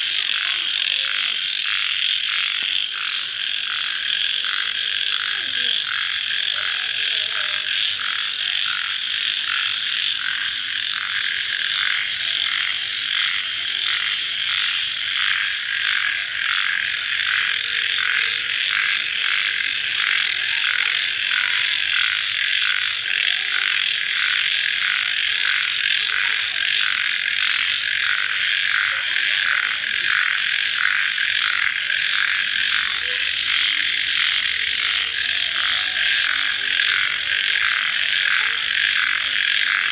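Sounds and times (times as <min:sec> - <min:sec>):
crickets and frogs calling: 0:00.0 - 0:39.9.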